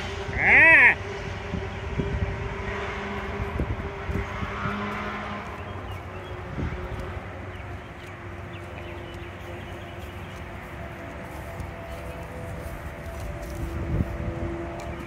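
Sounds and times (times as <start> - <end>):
faint engine hum: 0.0 - 15.0
road traffic rumble: 0.0 - 15.0.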